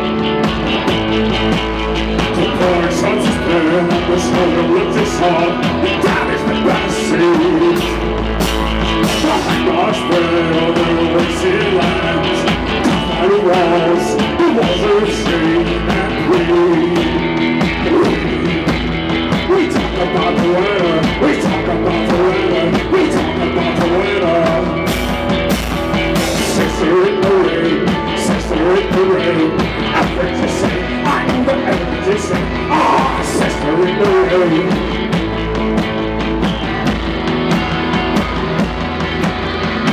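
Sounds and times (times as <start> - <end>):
drums: 0.0 - 39.9
electric guitars: 0.0 - 39.9
man singing: 2.1 - 25.2, 26.2 - 35.4.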